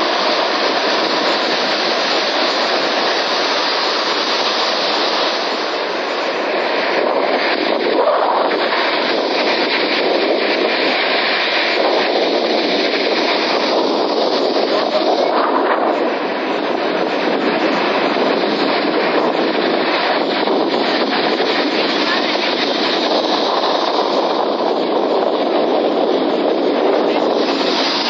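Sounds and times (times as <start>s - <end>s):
sea waves and surf: 0.0s - 28.0s.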